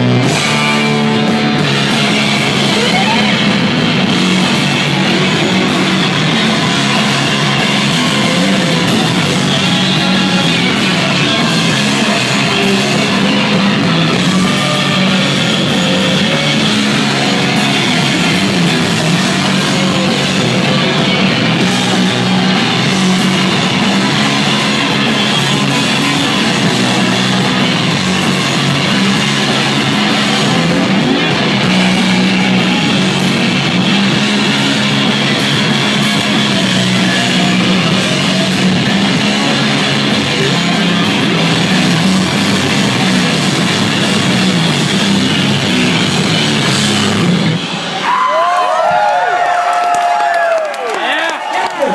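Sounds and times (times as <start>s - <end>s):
drum kit: 0.0s - 48.2s
electric guitar: 0.0s - 50.6s.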